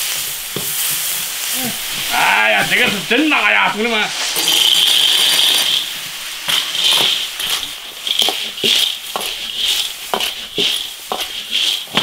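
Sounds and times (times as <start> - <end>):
spatula knocking and scraping wok: 0.0 - 3.2, 4.1 - 12.0
food sizzling in hot oil: 0.0 - 12.0.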